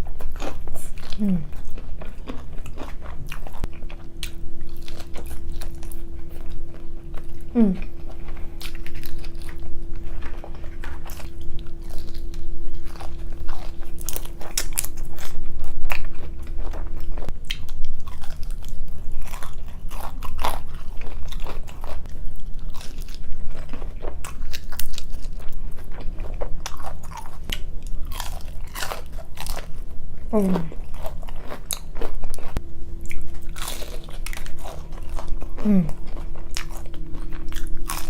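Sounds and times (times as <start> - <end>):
crunching and chewing: 0.0 - 38.0
faint steady hum: 0.0 - 38.0.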